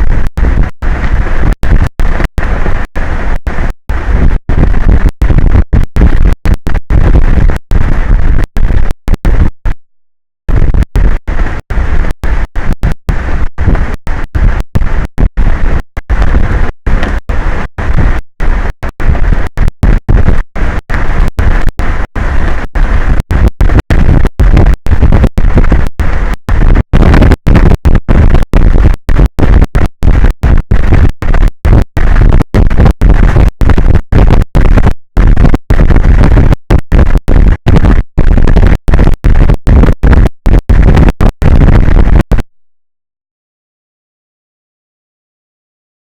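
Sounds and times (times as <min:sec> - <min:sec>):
wind buffeting microphone: 0:00.0 - 0:09.8, 0:10.5 - 0:42.4.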